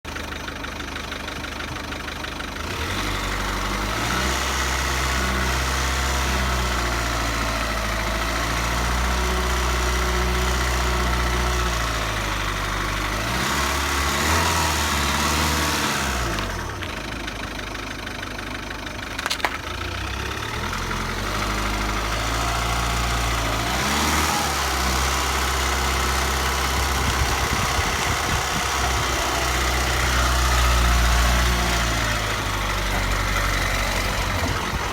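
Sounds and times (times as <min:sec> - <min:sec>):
car engine running with a rattle: 0:00.1 - 0:34.9.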